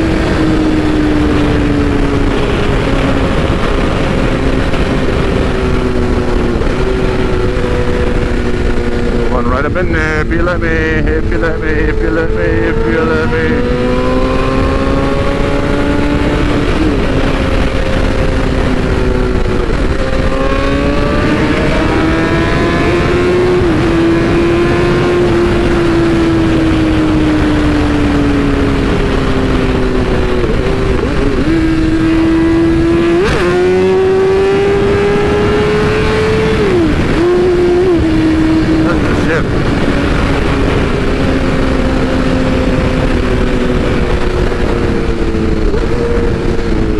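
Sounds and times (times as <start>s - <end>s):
motorcycle engine running hard: 0.0s - 46.9s
wind noise on microphone: 0.0s - 46.9s.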